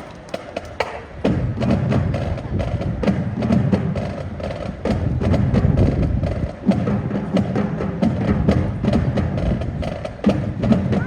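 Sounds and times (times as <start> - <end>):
wind and brass instruments: 0.0 - 11.0.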